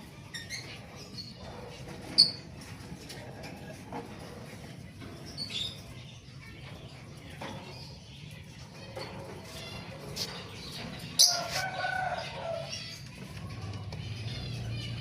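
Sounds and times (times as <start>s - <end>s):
bird chicks peeping: 0.0s - 15.0s.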